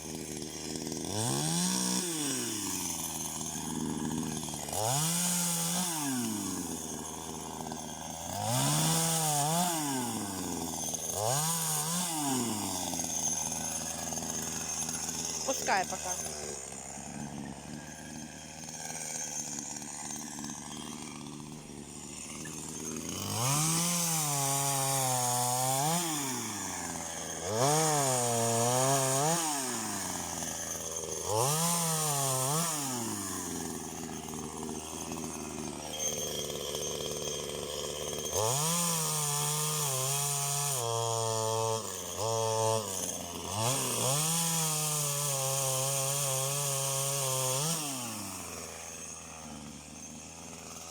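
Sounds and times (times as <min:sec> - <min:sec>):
chainsaw engine revving: 0:00.0 - 0:50.9.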